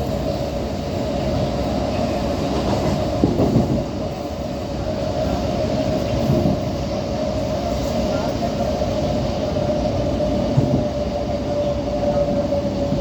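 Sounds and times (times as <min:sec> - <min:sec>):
electric train rumbling on rails: 0:00.0 - 0:13.0
train hum: 0:00.0 - 0:13.0.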